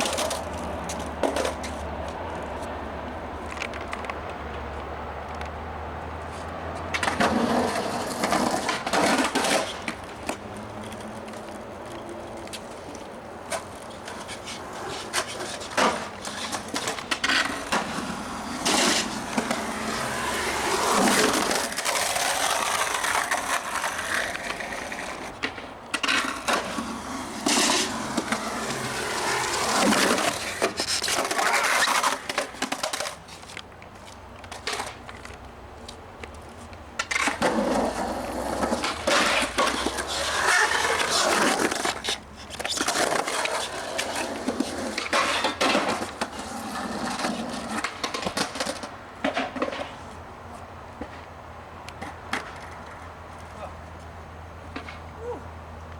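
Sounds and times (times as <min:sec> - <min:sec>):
skateboard clacking on ground: 0:00.0 - 0:55.9
skateboard wheels rolling on concrete: 0:00.0 - 0:55.9.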